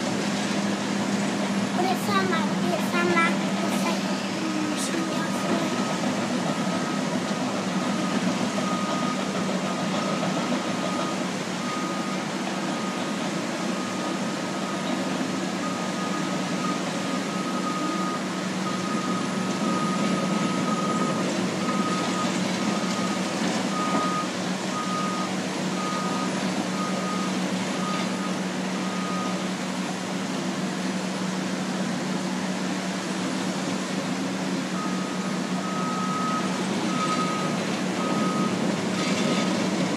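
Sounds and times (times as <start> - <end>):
diesel engines droning: 0.0 - 39.9.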